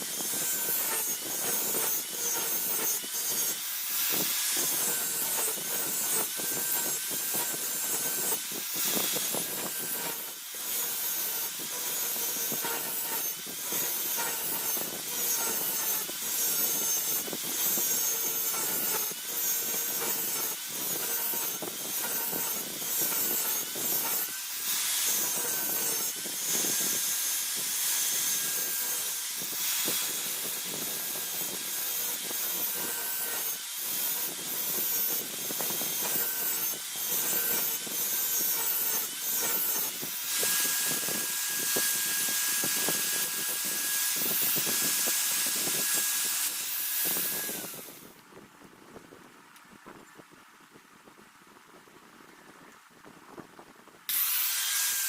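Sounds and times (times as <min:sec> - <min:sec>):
electric grinder grinding steel: 0:00.0 - 0:48.2, 0:54.1 - 0:55.0.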